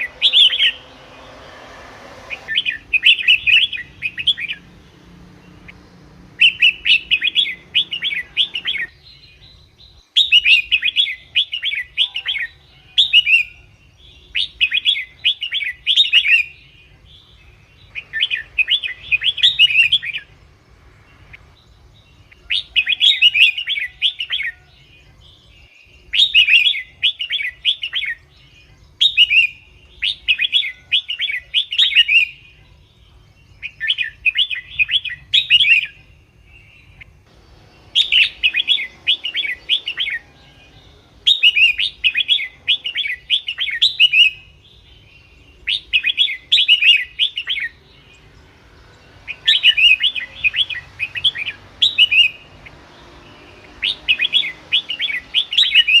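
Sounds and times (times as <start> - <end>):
bird singing chirpy phrases: 0.0 - 56.0.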